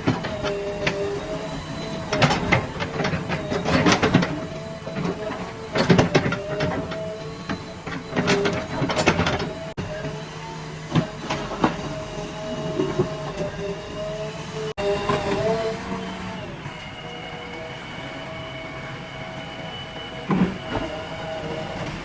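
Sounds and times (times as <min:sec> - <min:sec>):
diesel engine under load: 0:00.0 - 0:22.0
hydraulic whine: 0:00.0 - 0:22.0.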